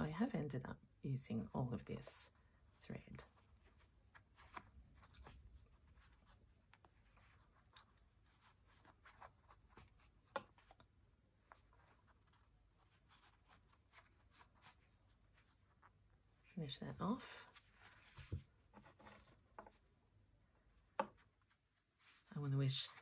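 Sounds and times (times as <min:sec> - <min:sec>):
needle and thread through fabric: 0:02.6 - 0:23.0.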